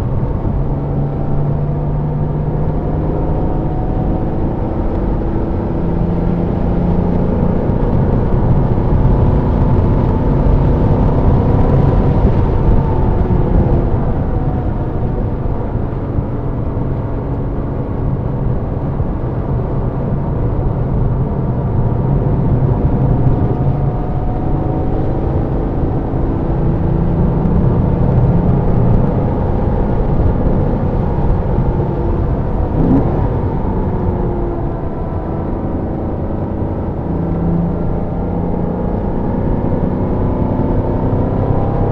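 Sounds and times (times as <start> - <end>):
car engine accelerating: 0.0 - 41.9
road and wind noise: 0.0 - 41.9.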